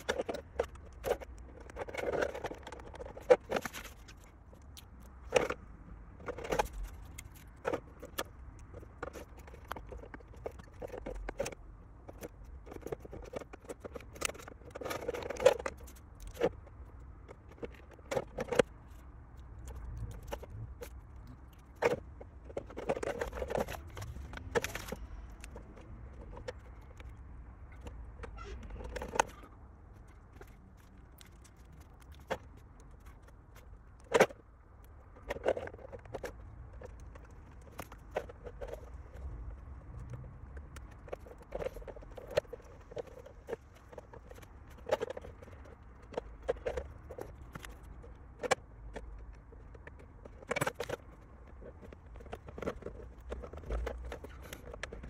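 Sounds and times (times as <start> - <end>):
hands handling plastic parts: 0.0 - 55.0.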